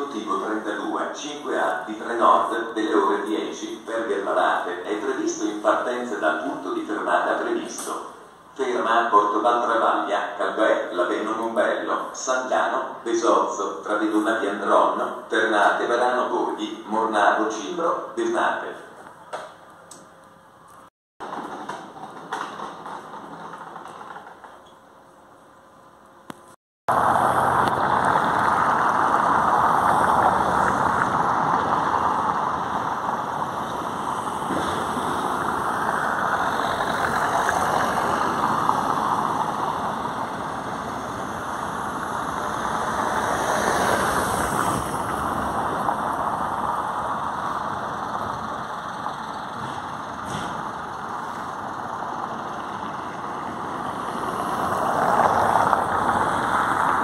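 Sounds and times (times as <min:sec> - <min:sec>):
street traffic engine noise: 0:00.0 - 0:57.0.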